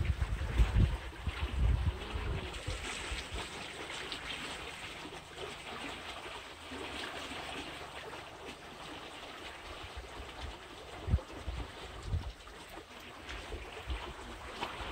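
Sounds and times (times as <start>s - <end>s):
water flowing steadily: 0.0s - 14.9s.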